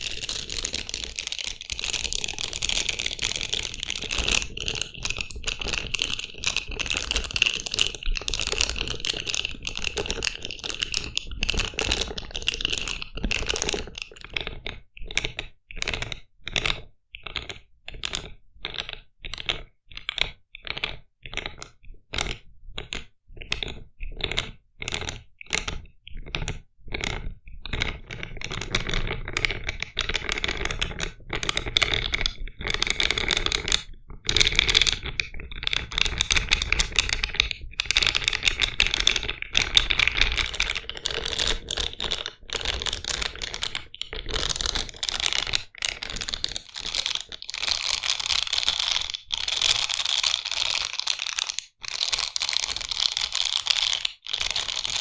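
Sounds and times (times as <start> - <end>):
fast crackly clicking: 0.0 - 55.0.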